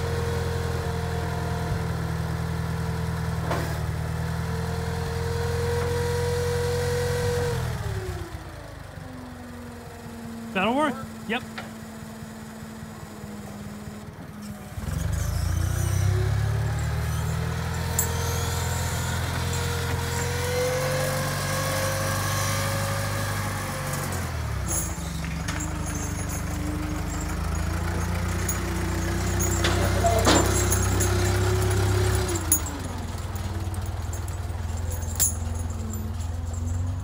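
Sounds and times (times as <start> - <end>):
tractor engine running: 6.1 - 37.0.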